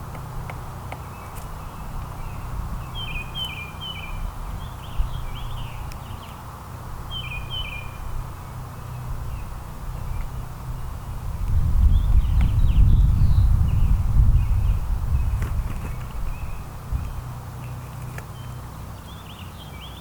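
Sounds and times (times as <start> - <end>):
low background rumble: 0.0 - 19.6
songbirds chirping: 0.0 - 20.0.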